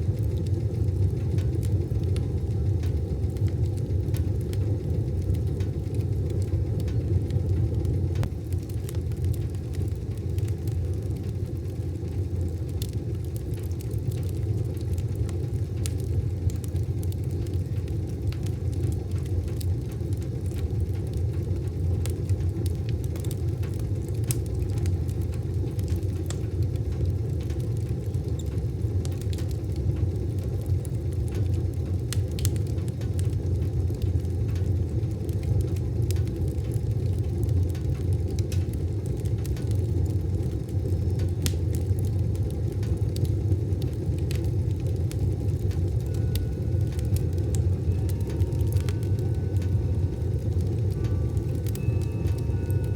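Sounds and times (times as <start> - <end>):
fire crackles and pops: 0.0 - 52.9
fire rumbling in a stove: 0.0 - 52.9.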